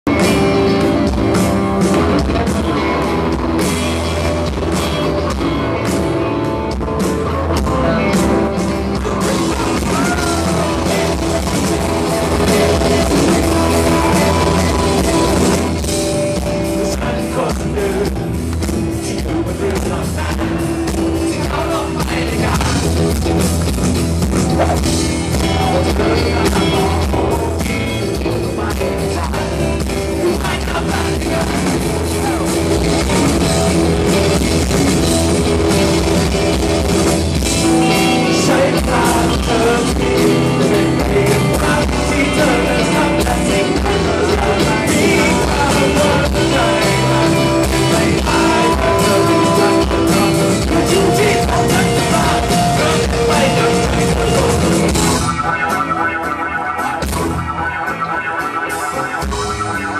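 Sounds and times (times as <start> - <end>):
live rock band playing: 0.0 - 59.9
person singing: 0.1 - 23.4, 24.6 - 36.6, 37.4 - 57.2.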